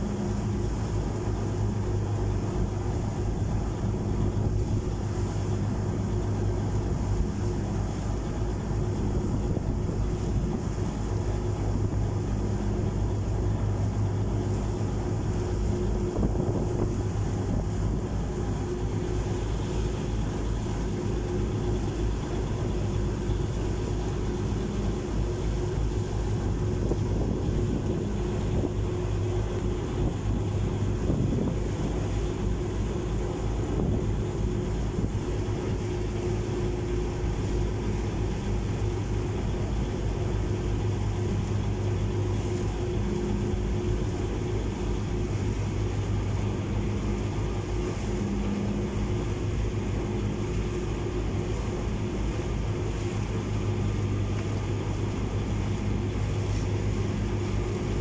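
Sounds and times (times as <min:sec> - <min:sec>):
ferry engine low hum: 0:00.0 - 0:58.0
water churning: 0:00.0 - 0:58.0
wind buffeting microphone: 0:00.0 - 0:58.0.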